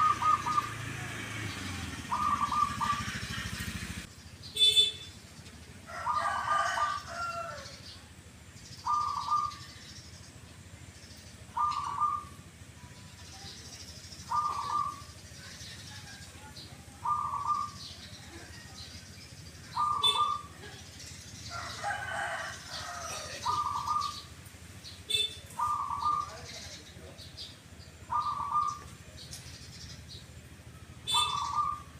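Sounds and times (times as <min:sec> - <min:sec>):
doves calling kuk: 0:00.0 - 0:31.9
harsh bird calls: 0:00.0 - 0:31.9.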